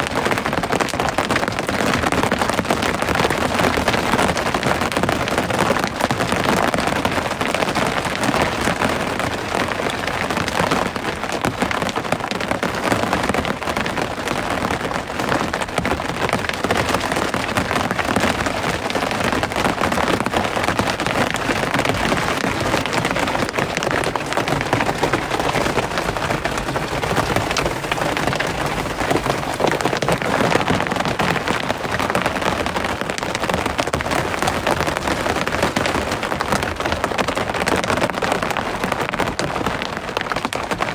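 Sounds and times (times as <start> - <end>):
steady rain hiss: 2.2 - 35.6.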